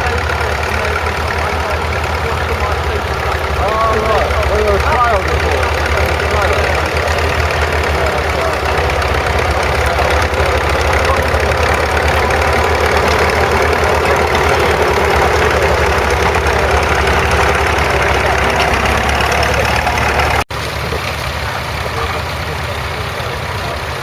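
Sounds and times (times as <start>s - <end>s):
crawler tractor engine chugging: 0.0s - 24.0s.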